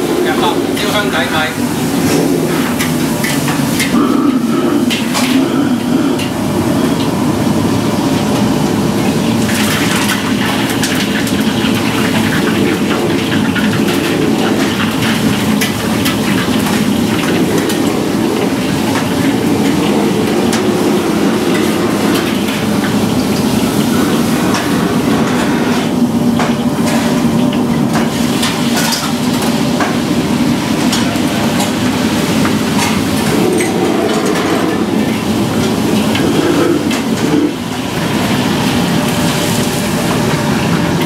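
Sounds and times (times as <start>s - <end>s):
wok burner roaring: 0.0s - 41.0s.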